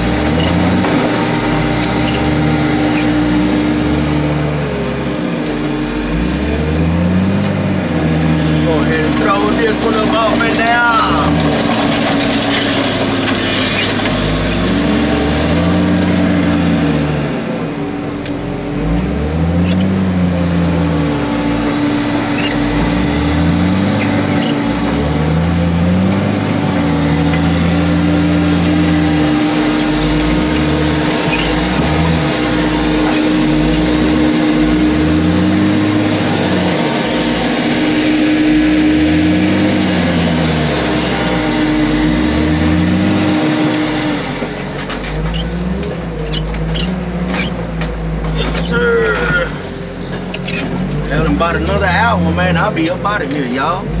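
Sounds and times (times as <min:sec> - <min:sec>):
hydraulic whine: 0:00.0 - 0:54.0
loader engine revving: 0:00.0 - 0:54.0.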